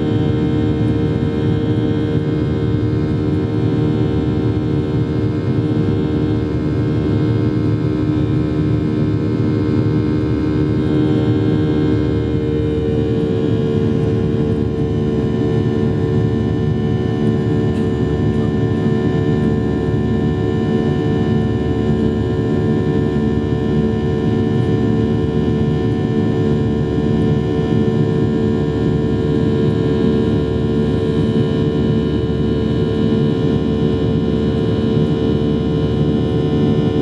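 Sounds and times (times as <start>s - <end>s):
jet engines rumbling and whining: 0.0s - 37.0s.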